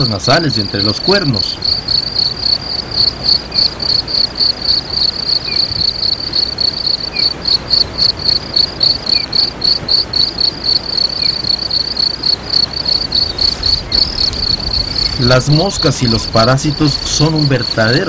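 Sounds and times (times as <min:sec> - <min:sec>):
insects chirping in pulses: 0:00.0 - 0:18.0.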